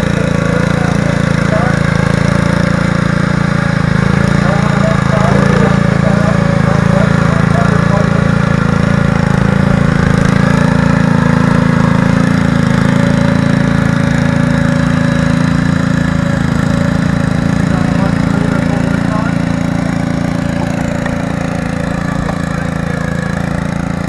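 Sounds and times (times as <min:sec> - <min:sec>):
garden tractor engine running: 0:00.0 - 0:24.0.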